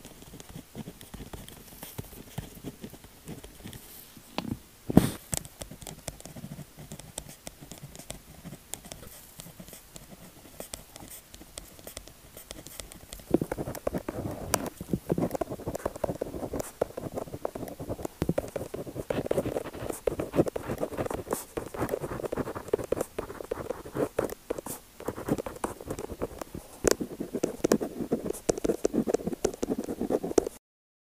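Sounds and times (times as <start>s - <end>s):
pen scratching and tapping on paper: 0.0s - 3.8s, 4.9s - 30.6s.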